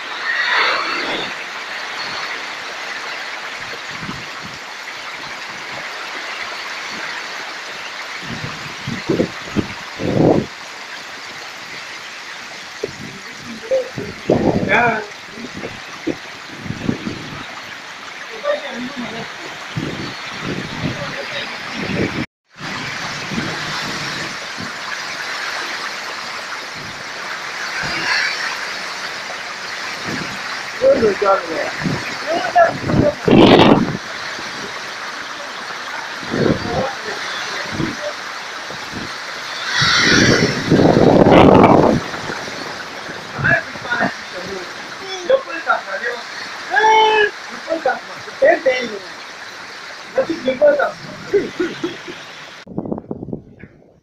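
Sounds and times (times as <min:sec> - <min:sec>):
torrential rain: 0:00.0 - 0:54.0.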